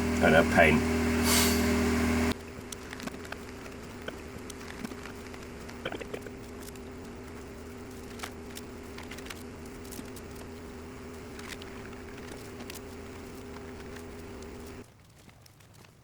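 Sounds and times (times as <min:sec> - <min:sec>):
portable generator humming: 0:00.0 - 0:14.8.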